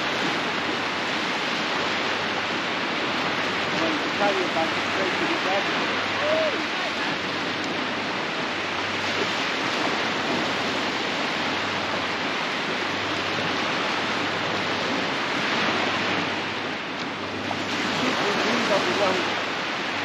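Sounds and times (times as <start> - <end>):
surf breaking on shore: 0.0 - 20.0.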